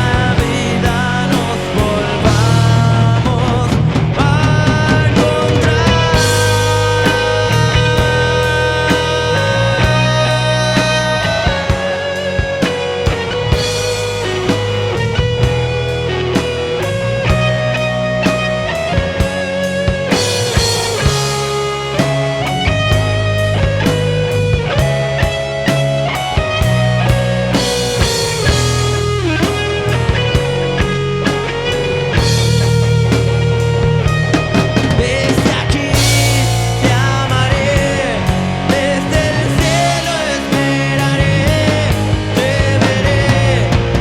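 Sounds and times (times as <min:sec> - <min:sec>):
bass: 0:00.0 - 0:44.0
drum kit steady beat: 0:00.0 - 0:44.0
electric guitar lead melody: 0:00.0 - 0:44.0.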